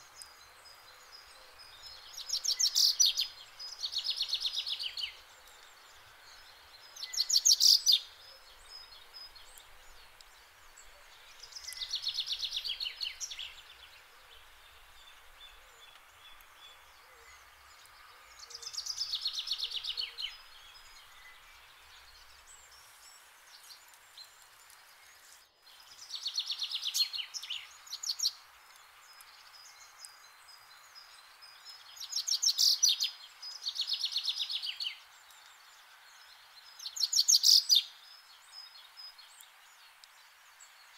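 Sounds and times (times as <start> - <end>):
faint outdoor hiss: 0.0 - 40.9
songbird singing: 0.0 - 40.9.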